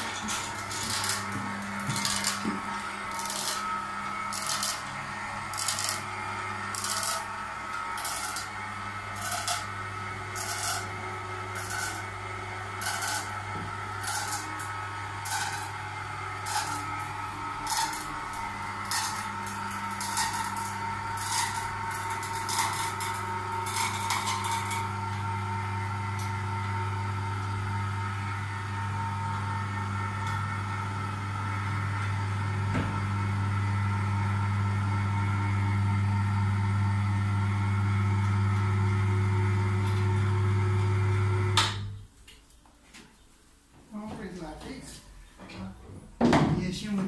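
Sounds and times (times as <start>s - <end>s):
electric hoist motor hum: 0.0s - 42.0s.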